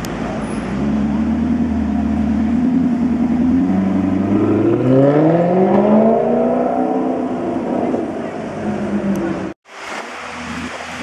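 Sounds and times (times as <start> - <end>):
car engine accelerating: 0.3 - 9.6.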